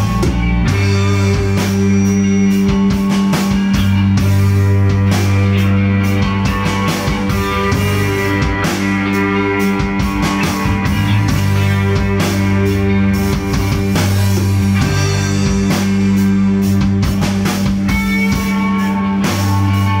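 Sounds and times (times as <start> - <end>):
drum and cymbal hits: 0.0 - 20.0
electric guitars: 0.0 - 20.0.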